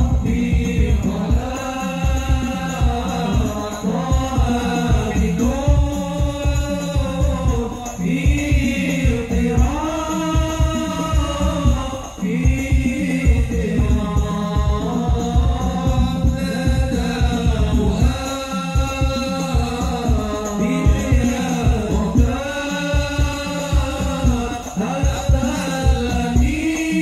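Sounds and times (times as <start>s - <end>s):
frame drums beating: 0.0s - 27.0s
men singing together: 0.0s - 27.0s.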